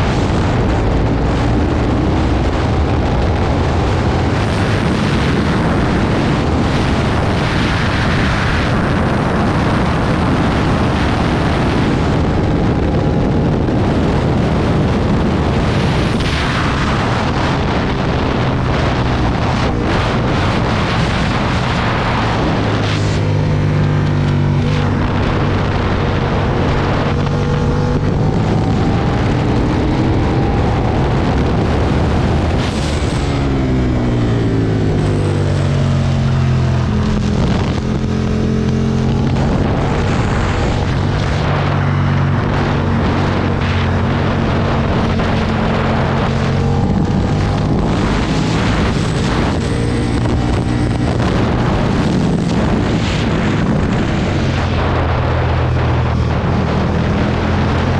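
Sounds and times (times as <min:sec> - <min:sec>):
motorcycle engine revving: 0:00.0 - 0:57.9
wind rush: 0:00.0 - 0:57.9.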